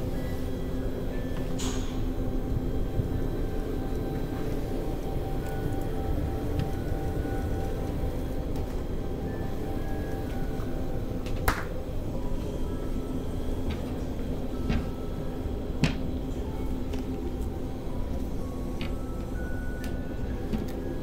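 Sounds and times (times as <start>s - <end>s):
faint background music: 0.0s - 21.0s
low interior hum: 0.0s - 21.0s.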